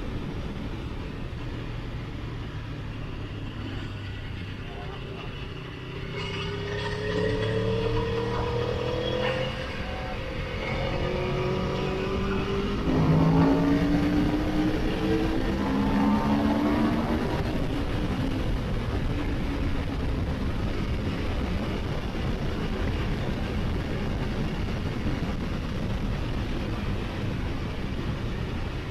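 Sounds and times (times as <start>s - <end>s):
wind rush: 0.0s - 28.9s
motorcycle engine accelerating: 4.9s - 28.9s.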